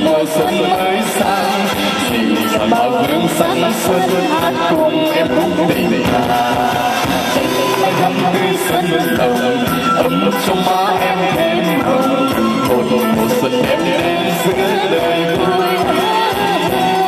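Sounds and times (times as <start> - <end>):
man and woman singing duet: 0.0 - 17.0.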